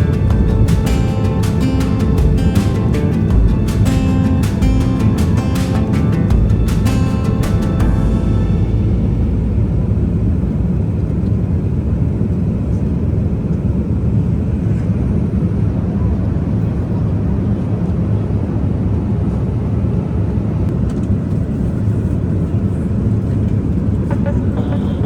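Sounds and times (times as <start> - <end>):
airliner cabin engine and airflow noise: 0.0 - 25.0.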